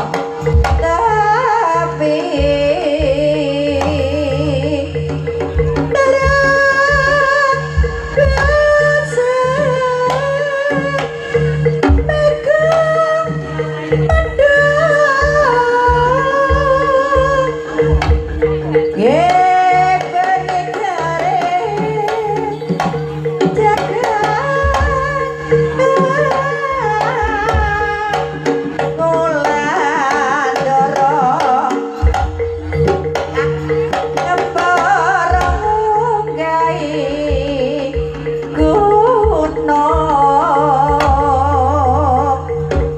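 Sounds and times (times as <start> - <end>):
drum strokes: 0.0 - 42.9
gamelan music: 0.0 - 42.9
person singing: 0.0 - 42.9.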